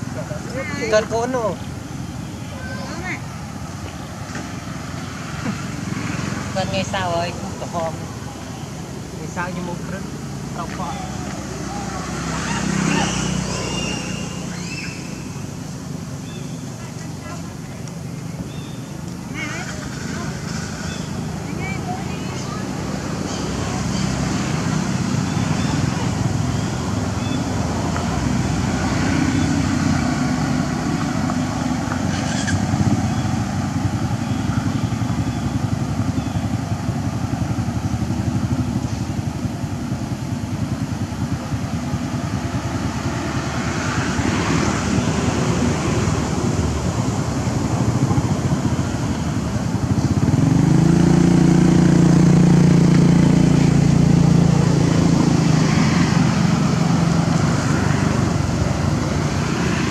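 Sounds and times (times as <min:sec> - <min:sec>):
engine and road rumble: 0:00.0 - 0:59.9
nearby vehicle engine: 0:00.0 - 0:59.9.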